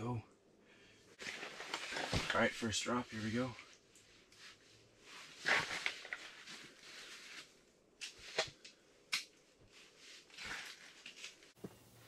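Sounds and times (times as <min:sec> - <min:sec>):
clothing rustling: 0:01.1 - 0:12.0.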